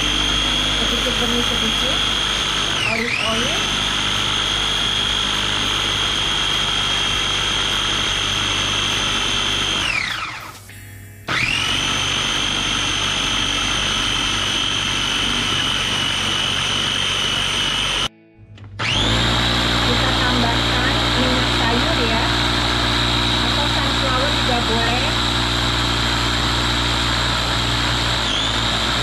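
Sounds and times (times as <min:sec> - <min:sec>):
food processor motor whining: 0:00.0 - 0:10.7, 0:11.3 - 0:29.0.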